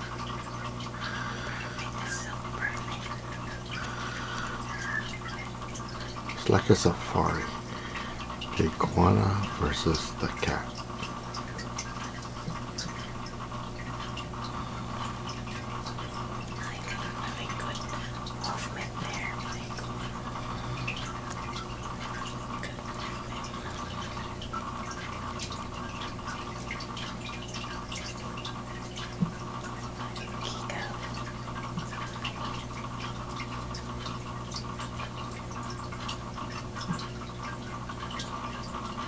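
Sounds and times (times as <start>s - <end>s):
steady low hum: 0.0s - 39.0s
water trickling and dripping: 0.0s - 39.0s.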